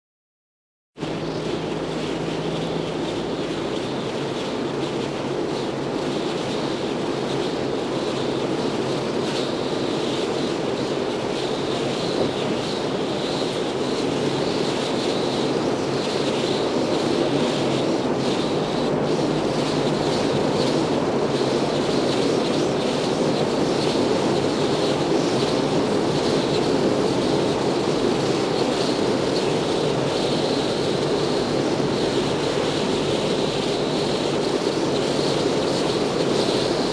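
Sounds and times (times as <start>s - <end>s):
rushing wind: 1.0s - 36.9s.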